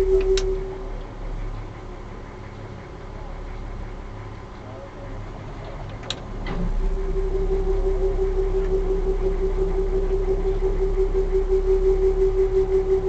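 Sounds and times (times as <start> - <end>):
boat engine rumble and whine: 0.0 - 13.0.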